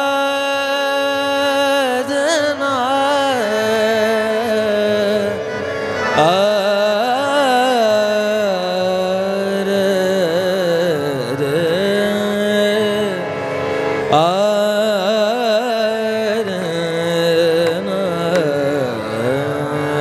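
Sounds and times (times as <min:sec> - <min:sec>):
man singing wordless devotional song: 0:00.0 - 0:20.0.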